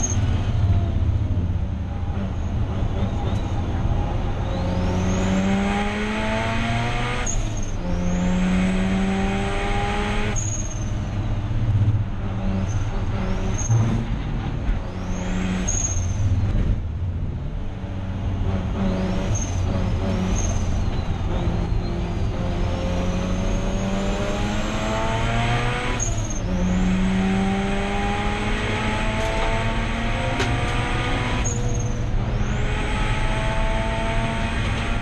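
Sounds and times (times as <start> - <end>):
race car engine accelerating: 2.0 - 16.8, 17.9 - 35.0.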